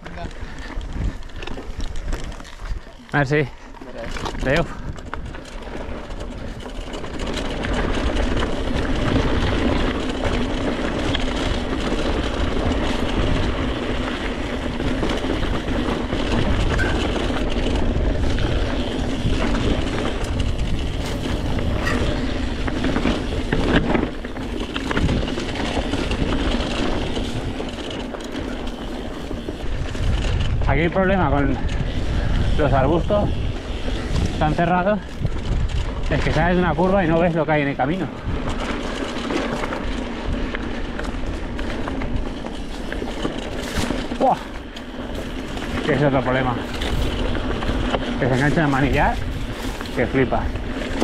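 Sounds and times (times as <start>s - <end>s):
bike rattling over bumps: 0.0s - 51.0s
bike tyres crunching over gravel: 0.0s - 51.0s.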